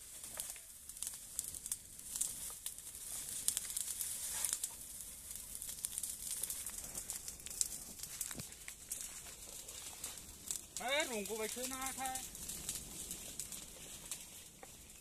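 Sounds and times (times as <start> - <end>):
fire crackling and popping: 0.0 - 15.0
steady high hiss: 0.0 - 15.0.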